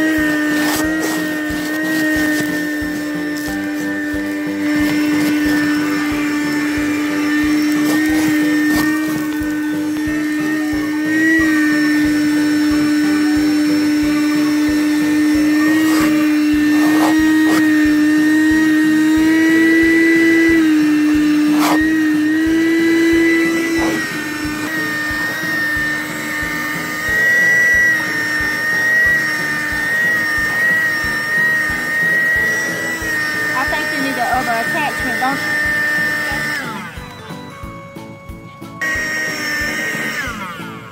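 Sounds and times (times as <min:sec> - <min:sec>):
car vacuum motor whine: 0:00.0 - 0:40.9.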